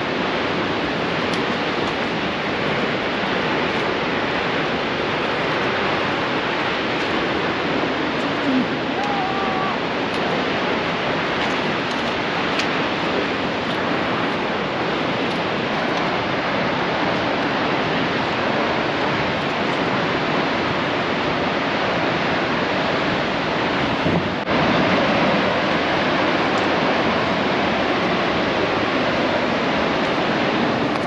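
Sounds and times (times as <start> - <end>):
waterfall rushing roar: 0.0 - 31.0.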